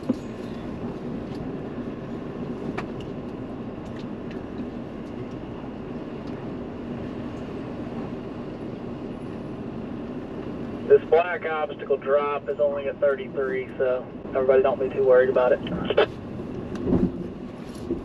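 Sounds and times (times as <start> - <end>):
engine and tyres rumbling: 0.0 - 18.0.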